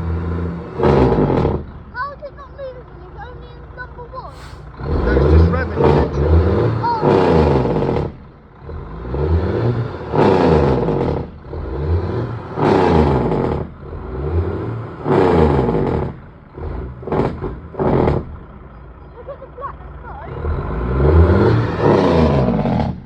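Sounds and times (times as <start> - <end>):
diesel truck engine revving: 0.0 - 23.0.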